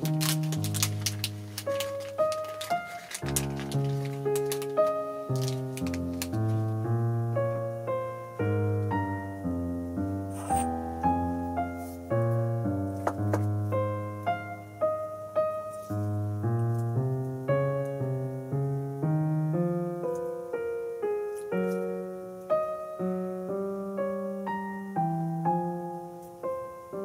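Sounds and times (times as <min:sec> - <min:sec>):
slow solo piano piece: 0:00.0 - 0:27.0.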